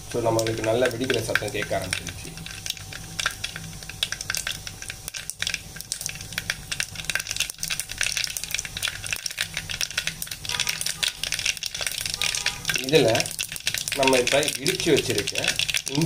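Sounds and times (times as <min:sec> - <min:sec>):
seeds popping in hot oil: 0:00.0 - 0:16.0
steady low hum: 0:00.0 - 0:16.0.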